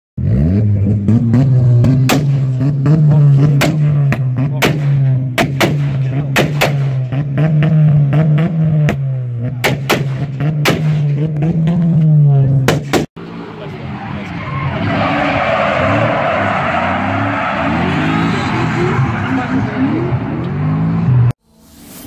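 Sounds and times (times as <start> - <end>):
car engine revving: 0.2 - 21.4
exhaust bangs: 0.2 - 21.4.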